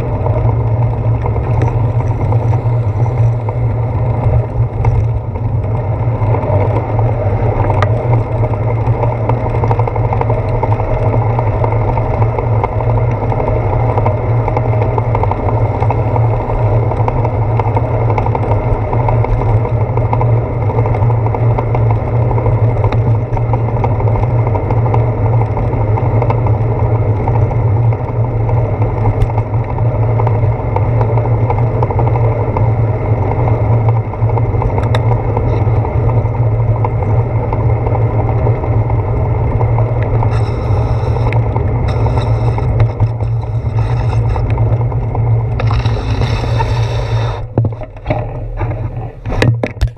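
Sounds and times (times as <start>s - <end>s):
bicycle road vibration: 0.0s - 49.9s
wind rumble: 0.0s - 49.9s.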